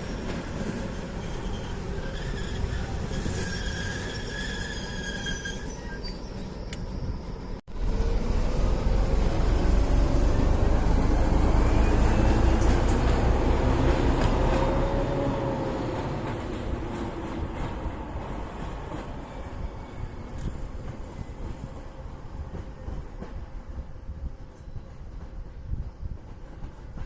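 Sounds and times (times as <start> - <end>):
train passing on rails: 0.0 - 27.0.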